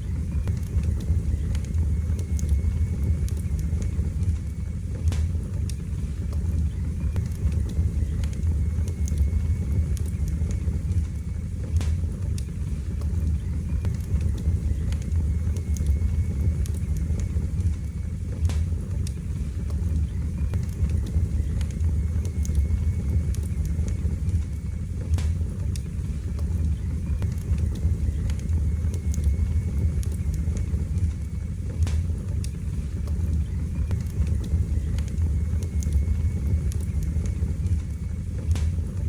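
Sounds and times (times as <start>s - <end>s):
fire crackling and popping: 0.0s - 39.0s
low roar of flames: 0.0s - 39.0s.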